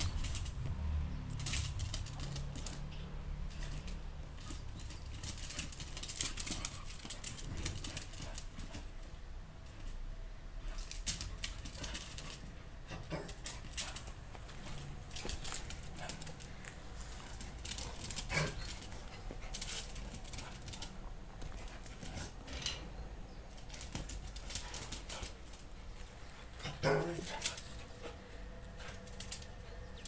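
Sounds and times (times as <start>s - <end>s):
puppy claws clicking on concrete: 0.0s - 8.8s, 10.7s - 22.9s, 23.5s - 30.0s.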